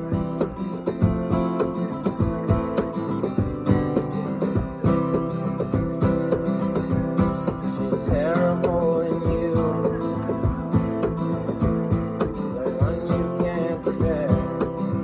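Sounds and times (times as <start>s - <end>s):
acoustic guitar strumming: 0.0s - 15.0s
cajon beat: 0.0s - 15.0s.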